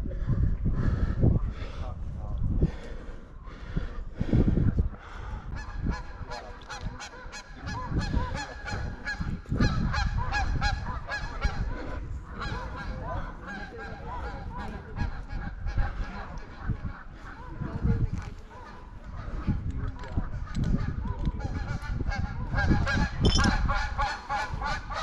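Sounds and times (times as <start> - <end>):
flock of birds calling: 2.7 - 25.0.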